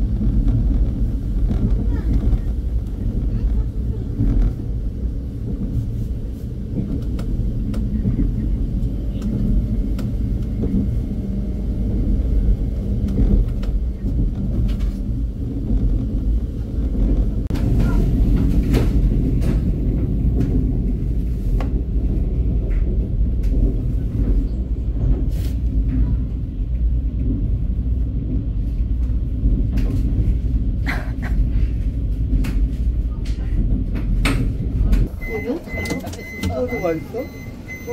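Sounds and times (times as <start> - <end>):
train rumble from inside carriage: 0.0 - 37.9.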